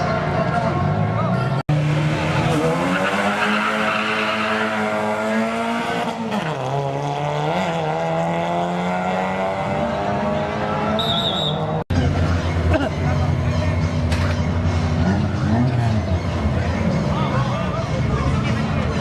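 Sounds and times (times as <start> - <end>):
racing car engine revving: 0.0 - 19.0.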